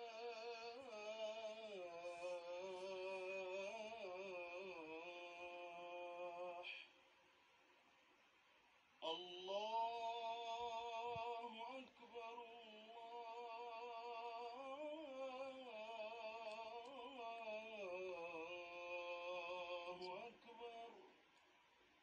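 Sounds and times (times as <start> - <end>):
call to prayer singing: 0.0 - 7.0, 9.0 - 21.3.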